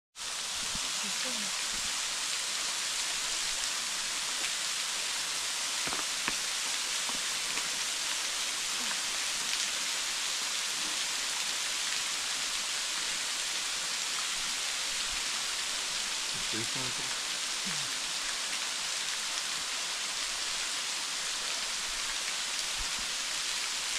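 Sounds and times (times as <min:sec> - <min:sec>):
waterfall spattering on rocks: 0:00.2 - 0:23.9.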